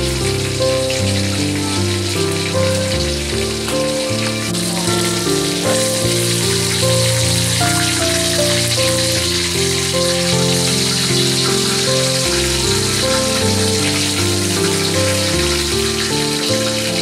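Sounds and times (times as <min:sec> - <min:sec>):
fish sizzling in hot oil: 0:00.0 - 0:17.0
melodic background music: 0:00.0 - 0:17.0.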